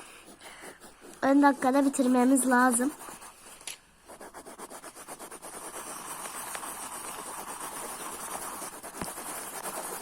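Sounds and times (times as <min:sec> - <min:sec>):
pencils scribbling on paper: 0:00.0 - 0:10.0.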